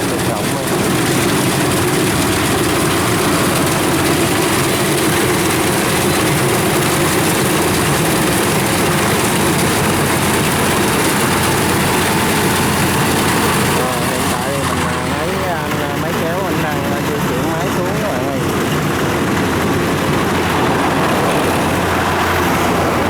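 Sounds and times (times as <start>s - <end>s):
heavy farm machine engine: 0.0s - 23.0s.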